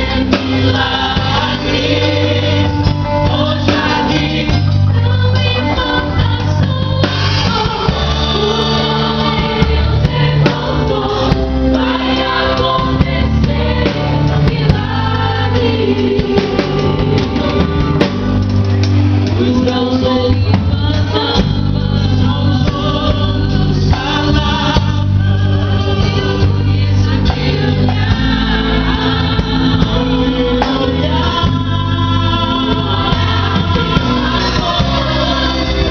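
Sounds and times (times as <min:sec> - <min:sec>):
bass: 0:00.0 - 0:35.9
group singing gospel: 0:00.0 - 0:35.9
keyboard accompaniment: 0:00.0 - 0:35.9.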